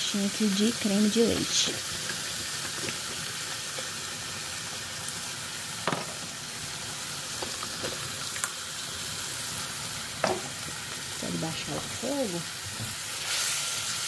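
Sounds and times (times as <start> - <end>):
chicken sizzling in a frying pan: 0.0 - 14.0.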